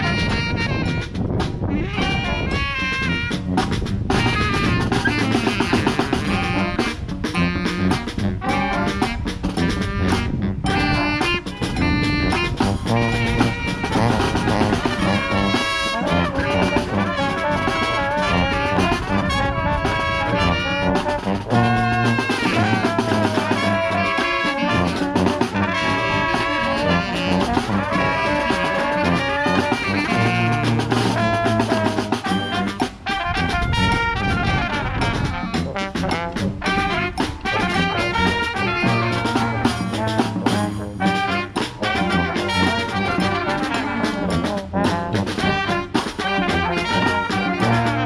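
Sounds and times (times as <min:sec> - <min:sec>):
snare drum: 0:00.0 - 0:48.0
sousaphone bass line: 0:00.0 - 0:48.0
trumpets and trombones: 0:00.0 - 0:48.0.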